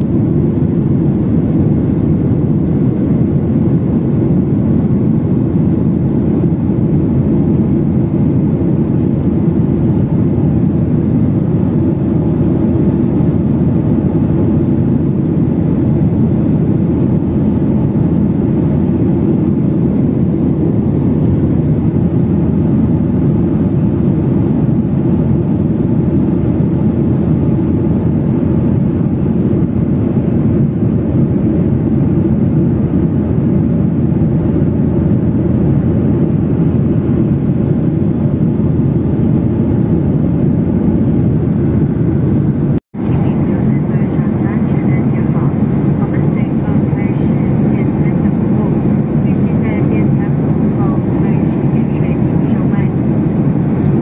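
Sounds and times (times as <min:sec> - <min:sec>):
airliner cabin engine rush: 0:00.0 - 0:54.0.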